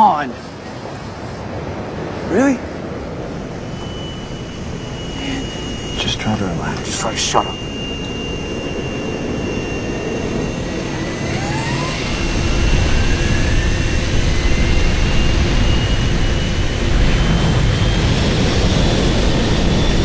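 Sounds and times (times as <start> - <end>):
jet engines spooling up: 0.0 - 20.0.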